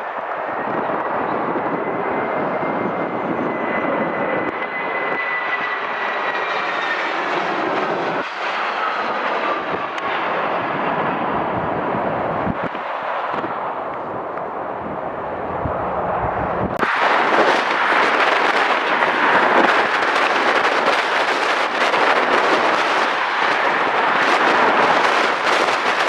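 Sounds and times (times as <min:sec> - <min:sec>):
jet aircraft passing: 0:00.0 - 0:26.0.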